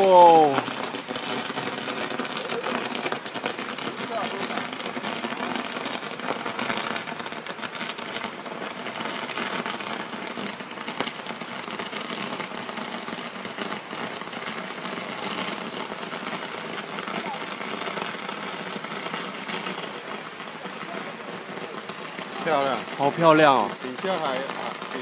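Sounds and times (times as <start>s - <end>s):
firework crackling and fizzing: 0.0s - 25.0s.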